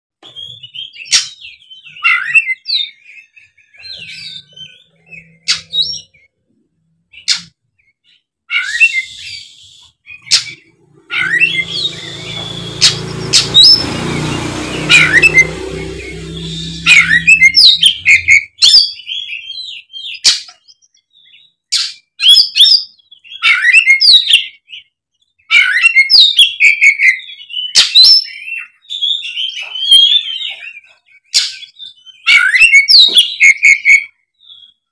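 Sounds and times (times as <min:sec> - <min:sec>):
bird singing whistled phrases: 0:00.3 - 0:06.3, 0:08.1 - 0:34.8.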